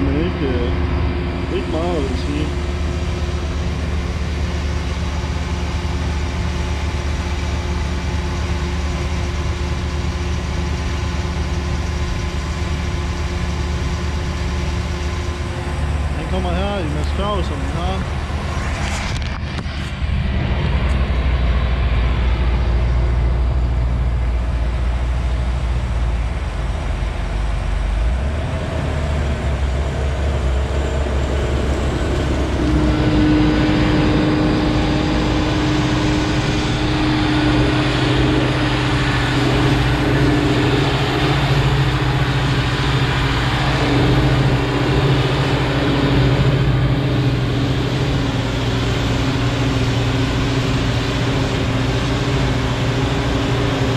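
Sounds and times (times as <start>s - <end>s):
forage harvester machine drone: 0.0s - 53.9s
steady humming tone: 0.0s - 53.9s.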